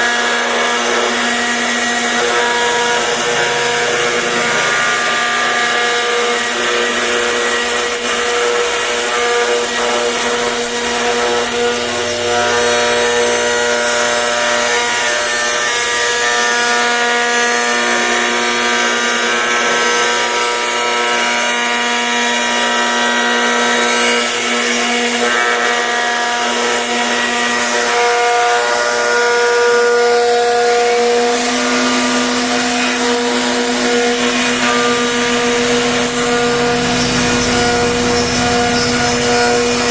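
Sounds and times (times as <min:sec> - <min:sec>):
bit grinding wood: 0:00.0 - 0:39.9
router spindle whine: 0:00.0 - 0:39.9.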